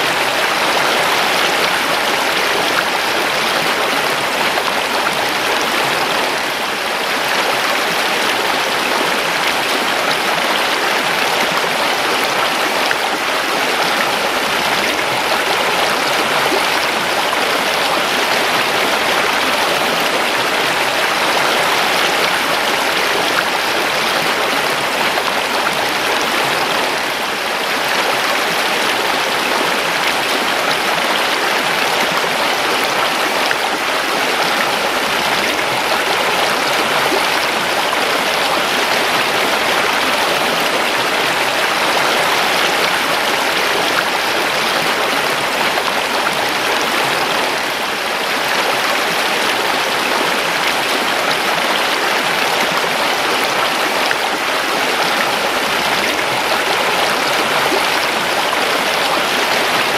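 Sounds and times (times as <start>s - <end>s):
creek water babbling over stones: 0.0s - 59.9s.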